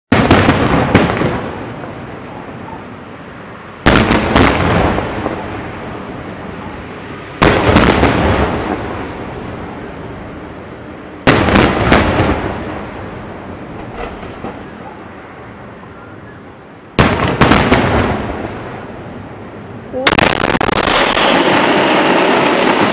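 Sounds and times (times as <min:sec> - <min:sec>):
fireworks bursting with bangs: 0:00.1 - 0:22.9
rumble and crackle: 0:00.4 - 0:22.9.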